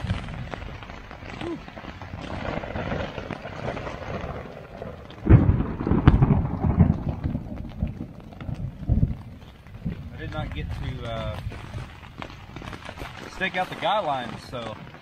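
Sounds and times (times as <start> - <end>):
thunder crack and rumble: 0.0 - 14.6
rain on tent fabric: 0.0 - 15.0.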